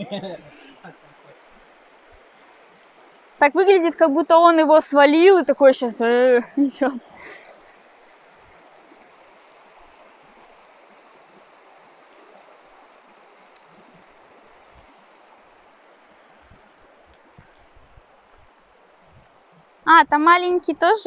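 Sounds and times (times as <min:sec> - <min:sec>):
small stream rushing: 0:00.0 - 0:21.0.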